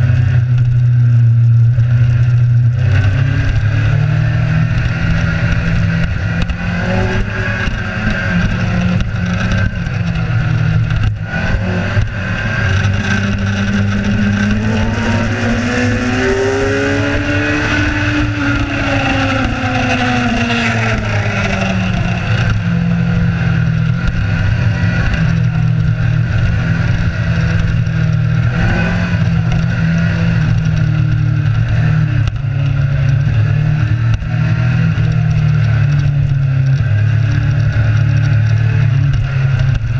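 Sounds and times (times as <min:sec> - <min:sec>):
motorcycle engine drone: 0:00.0 - 0:39.9
wind roar: 0:01.6 - 0:39.9.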